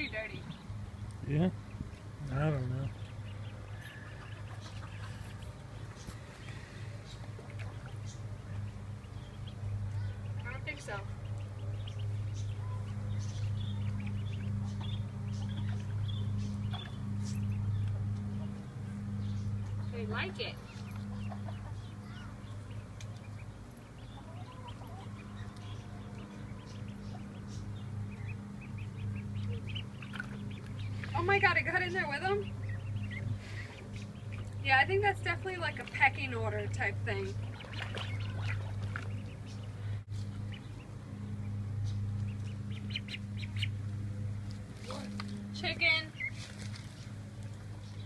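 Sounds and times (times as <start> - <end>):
ducklings peeping: 0.0 - 48.0
steady low hum: 0.0 - 48.0.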